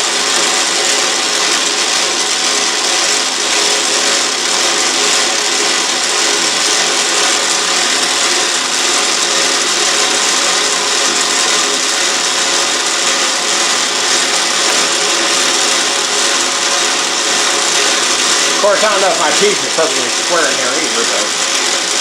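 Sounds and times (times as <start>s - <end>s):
lathe whining: 0.0s - 22.0s.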